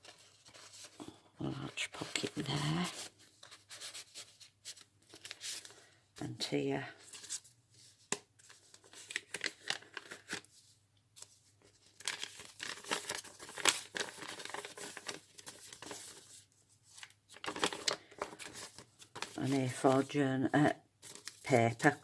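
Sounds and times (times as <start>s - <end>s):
paper pages rustling: 0.0s - 5.9s, 7.0s - 20.1s, 21.0s - 22.0s.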